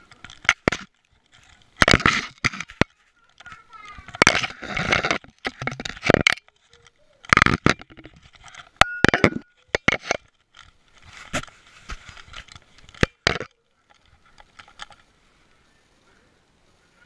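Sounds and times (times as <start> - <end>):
camera rubbing against fur: 0.6 - 8.6, 9.9 - 15.5.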